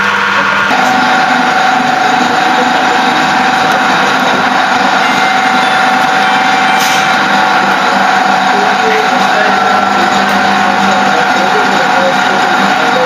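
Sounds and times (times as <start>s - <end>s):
machinery loud hum: 0.0s - 13.0s
machinery whine: 0.0s - 13.0s.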